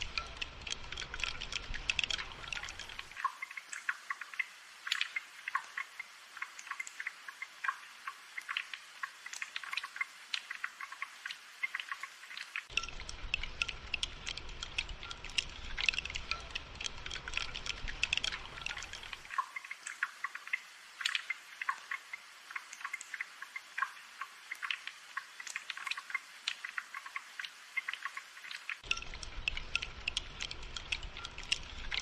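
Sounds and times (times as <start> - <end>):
rain patter: 0.0 - 32.0.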